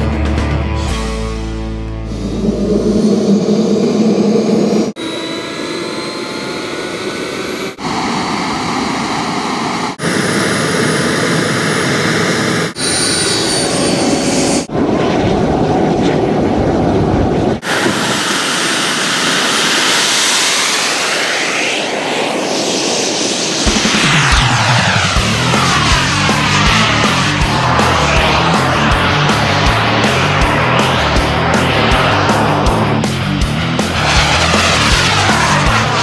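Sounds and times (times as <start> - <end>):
jet rush sweeping in pitch: 2.0 - 36.0
model jet turbine whine: 2.1 - 15.1, 17.6 - 36.0.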